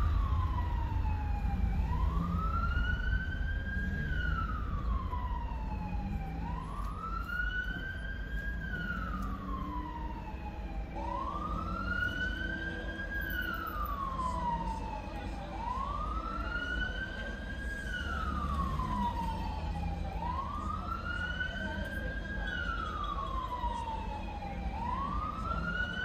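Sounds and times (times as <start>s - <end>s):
emergency siren wailing: 0.0s - 26.0s
low traffic rumble: 0.0s - 26.0s.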